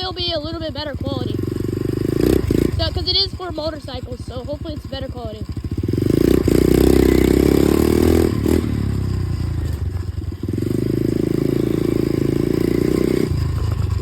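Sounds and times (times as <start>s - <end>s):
dirt bike engine: 0.0s - 14.0s.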